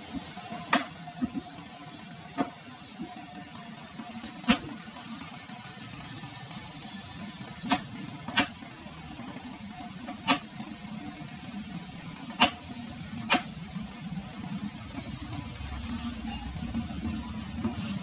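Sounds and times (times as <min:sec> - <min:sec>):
thick liquid simmering in a pot: 0:00.0 - 0:18.0.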